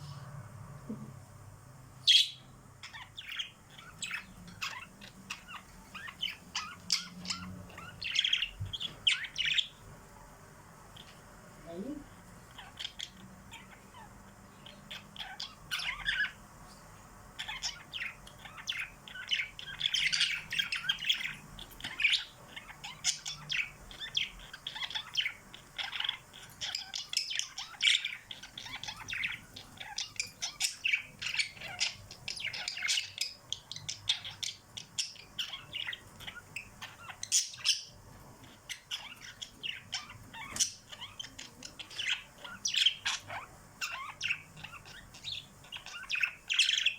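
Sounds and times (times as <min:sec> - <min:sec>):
pet birds chirping and squawking: 0:00.0 - 0:46.9.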